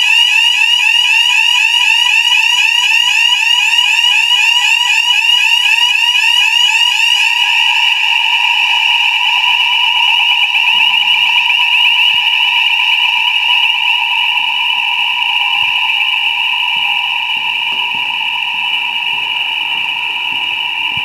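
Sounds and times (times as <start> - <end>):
warbling fire alarm tone: 0.0 - 21.0.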